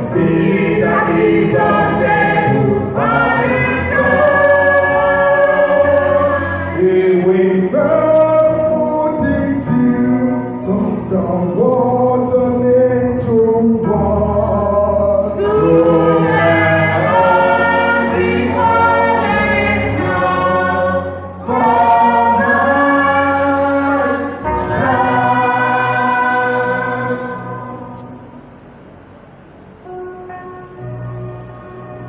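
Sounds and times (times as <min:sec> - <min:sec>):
choir singing a hymn: 0:00.0 - 0:28.4.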